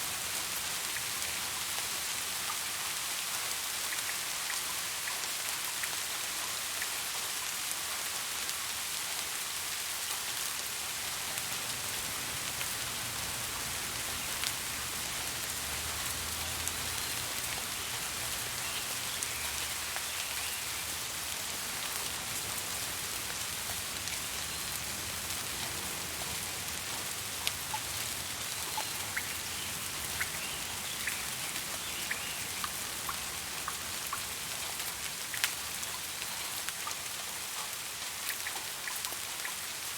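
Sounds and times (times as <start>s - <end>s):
raindrops ticking on a surface: 0.0s - 39.9s
steady rain hiss: 0.0s - 39.9s.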